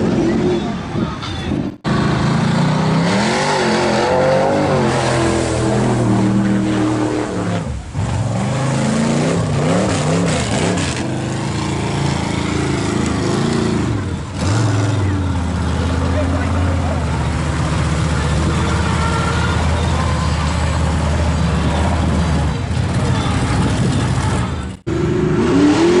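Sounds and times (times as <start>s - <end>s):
truck engine revving hard: 1.9s - 26.0s.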